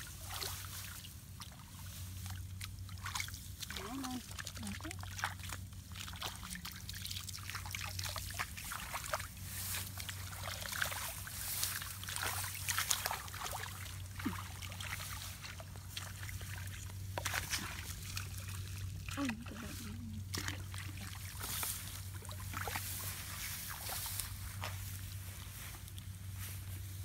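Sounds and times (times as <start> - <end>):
low steady hum: 0.0 - 27.0
shallow water splashing and trickling: 0.0 - 27.0.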